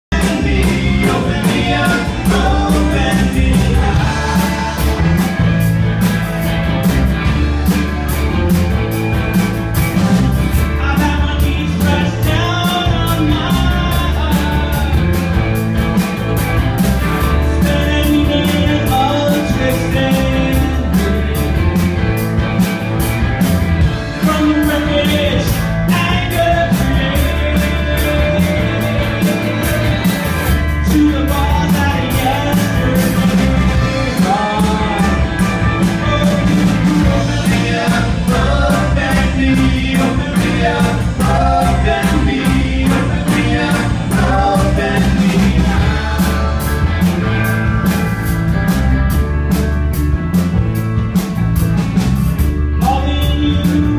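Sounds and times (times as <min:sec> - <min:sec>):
bass guitar: 0:00.0 - 0:53.9
drums keeping a steady beat: 0:00.0 - 0:53.9
electric guitars: 0:00.0 - 0:53.9.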